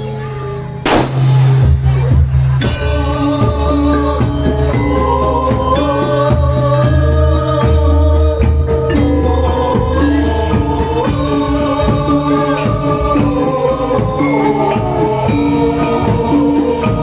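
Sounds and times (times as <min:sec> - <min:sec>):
group singing with band: 0:02.7 - 0:17.0.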